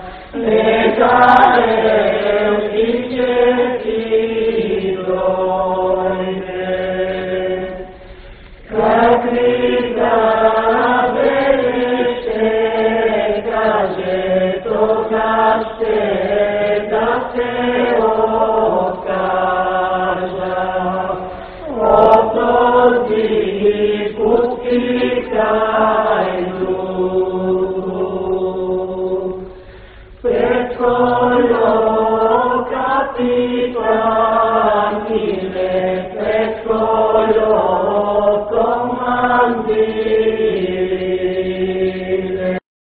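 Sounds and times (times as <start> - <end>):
choir singing: 0.0 - 29.6, 30.2 - 42.6.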